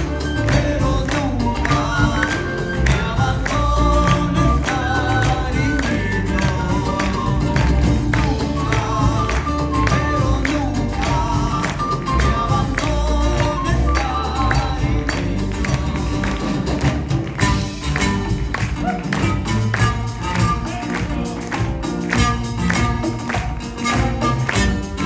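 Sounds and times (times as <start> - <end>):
live band music: 0.0 - 25.0
percussion beat: 0.0 - 25.0.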